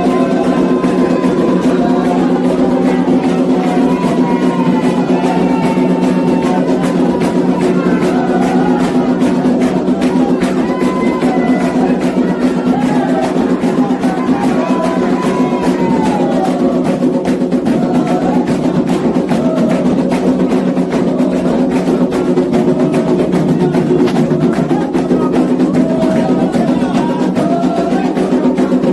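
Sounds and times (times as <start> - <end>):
fast hand drumming: 0.0 - 28.9
voices singing: 0.0 - 28.9.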